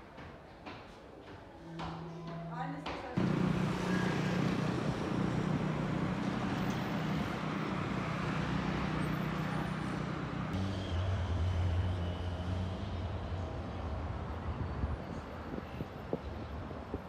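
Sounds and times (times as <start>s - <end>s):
street traffic noise: 0.1s - 17.0s.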